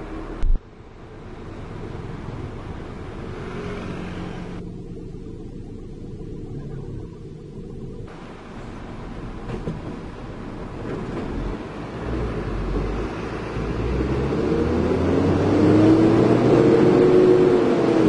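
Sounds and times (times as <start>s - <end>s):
engine whine: 0.0s - 18.0s
heavy diesel engine: 0.0s - 18.0s.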